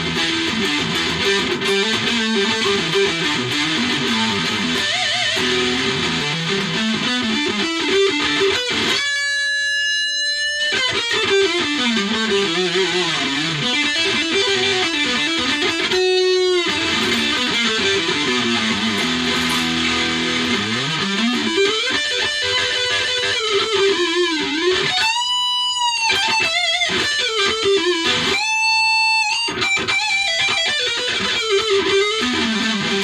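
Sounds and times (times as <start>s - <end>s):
electric guitar melodic runs: 0.0s - 33.0s.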